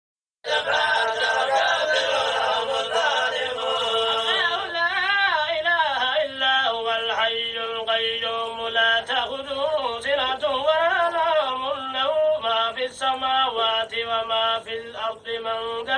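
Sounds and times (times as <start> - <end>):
man chanting melodic recitation: 0.5 - 15.9.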